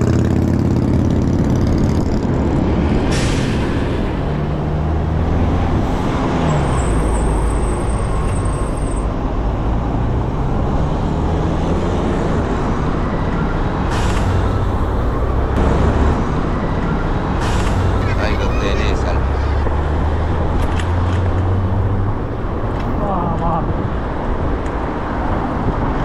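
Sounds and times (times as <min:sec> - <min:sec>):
bus and car engines: 0:00.0 - 0:26.0
steady road noise: 0:00.0 - 0:26.0.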